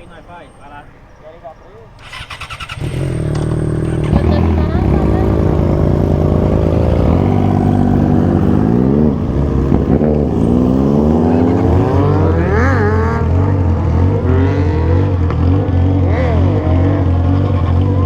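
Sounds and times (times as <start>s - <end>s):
motorcycle engine accelerating: 2.0s - 18.0s.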